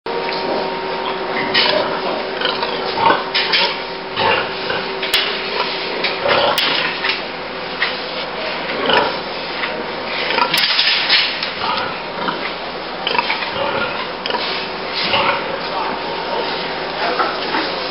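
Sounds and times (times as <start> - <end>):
steady hum: 0.1 - 17.9
pigs grunting: 0.4 - 17.9.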